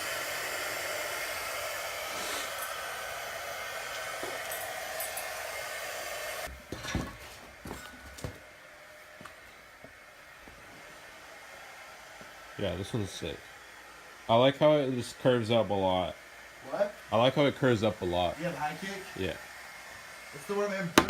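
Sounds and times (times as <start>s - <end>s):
hot-air blower running: 0.0s - 21.0s.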